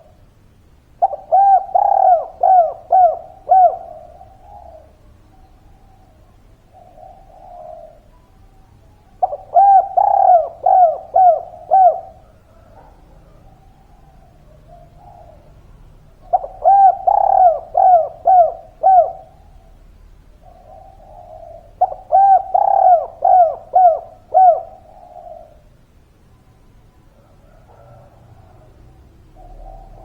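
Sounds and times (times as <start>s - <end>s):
dove cooing: 0.0s - 26.2s, 26.9s - 30.0s.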